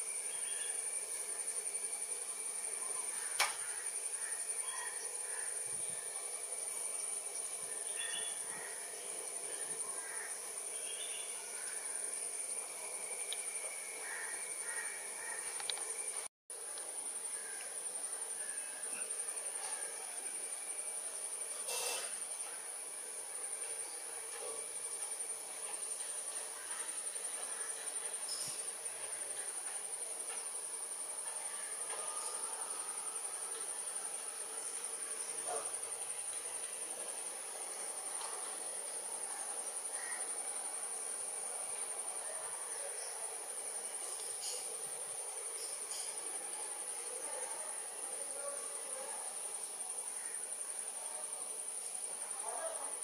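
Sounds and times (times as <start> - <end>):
high-pitched insect trill: 0.0 - 53.0.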